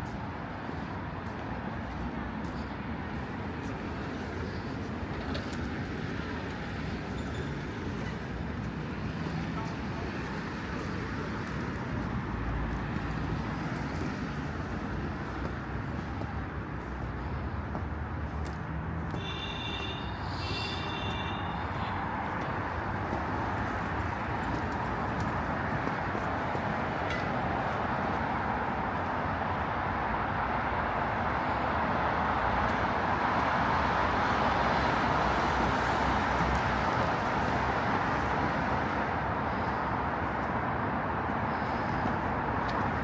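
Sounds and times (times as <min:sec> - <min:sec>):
passing cars: 0:00.0 - 0:43.0.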